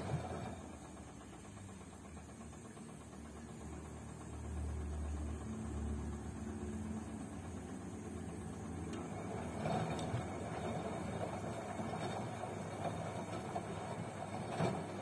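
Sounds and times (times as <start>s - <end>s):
washing machine drum motor humming: 0.0s - 15.0s.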